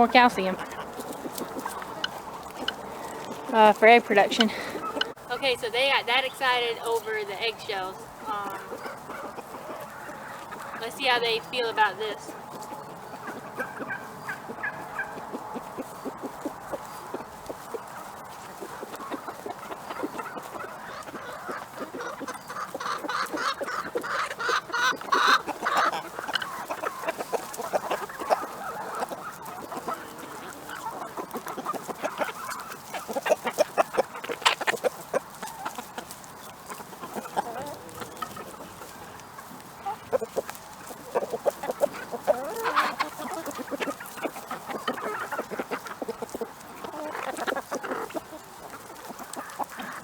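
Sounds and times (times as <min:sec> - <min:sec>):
hens clucking: 0:00.0 - 0:50.0.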